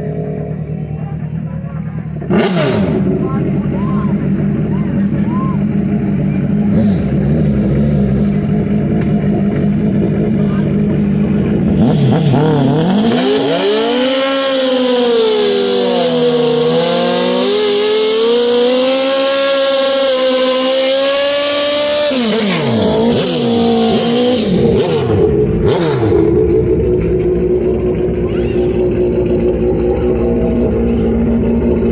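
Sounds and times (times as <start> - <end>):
motorcycle engine revving high: 0.0 - 31.9.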